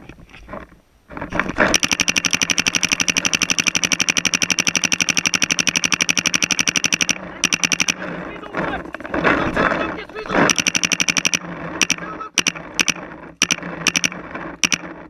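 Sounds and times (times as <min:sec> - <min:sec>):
paintball marker rapid firing: 0:01.3 - 0:15.0.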